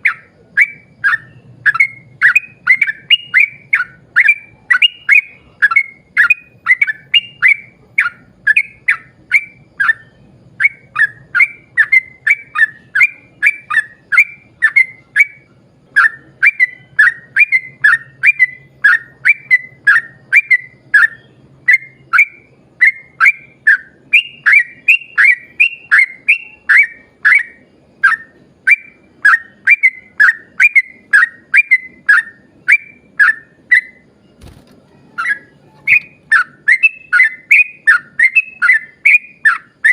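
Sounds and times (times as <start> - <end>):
bulbul singing whistled phrases: 0.0 - 39.9.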